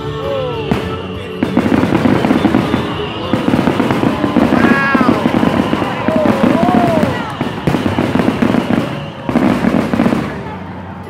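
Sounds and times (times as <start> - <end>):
fireworks bursting and crackling: 0.6 - 11.0.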